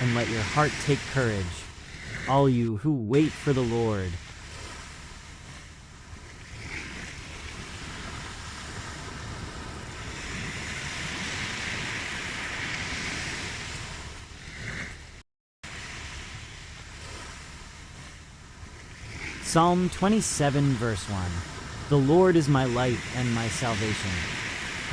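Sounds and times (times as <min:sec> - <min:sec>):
ocean waves washing on shore: 0:00.0 - 0:24.9.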